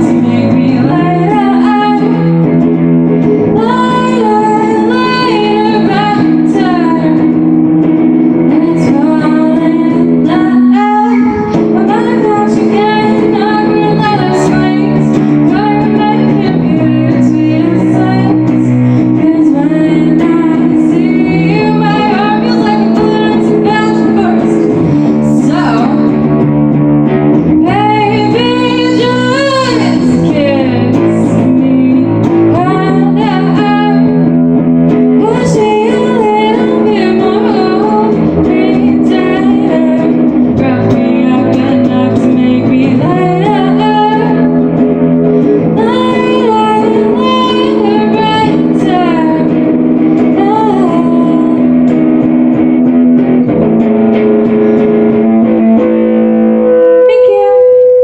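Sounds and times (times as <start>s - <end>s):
person singing: 0.0s - 26.5s, 27.4s - 34.4s, 35.0s - 58.0s
guitar chords: 0.0s - 58.0s.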